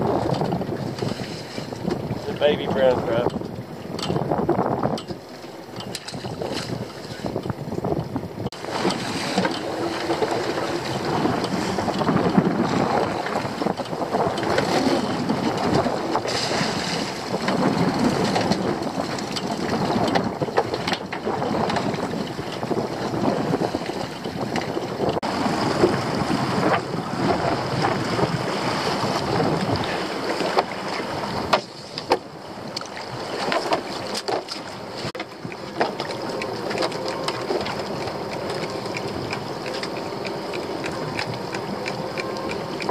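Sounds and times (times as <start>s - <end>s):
sea splashing against boat: 0.0s - 42.9s
wind on microphone: 0.0s - 42.9s.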